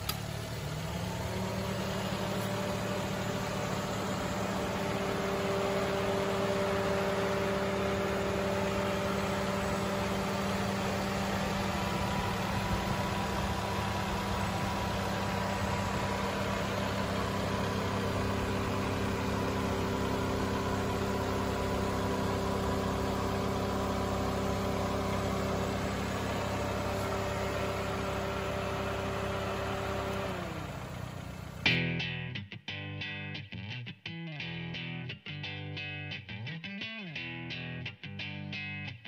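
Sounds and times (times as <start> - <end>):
car engine idling: 0.0 - 32.2.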